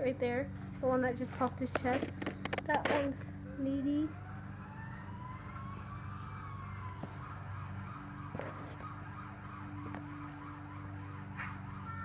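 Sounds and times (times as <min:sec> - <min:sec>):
steady low hum: 0:00.0 - 0:12.0
emergency vehicle siren wailing: 0:02.0 - 0:12.0.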